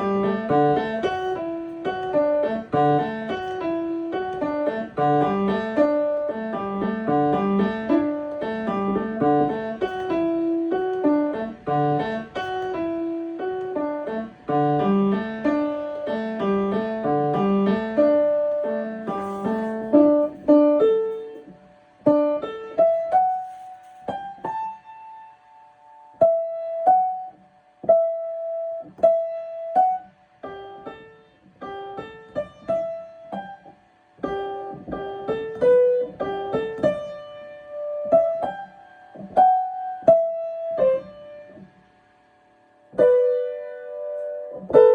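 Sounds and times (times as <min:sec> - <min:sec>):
solo piano: 0:00.0 - 0:44.9.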